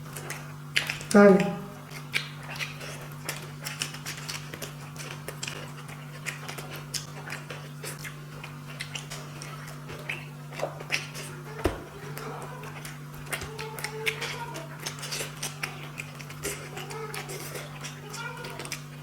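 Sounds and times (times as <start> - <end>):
steady low hum: 0.0 - 19.0
wet chewing: 0.0 - 19.0
clicks of food and fingers: 0.1 - 19.0
lip smacks: 0.1 - 19.0.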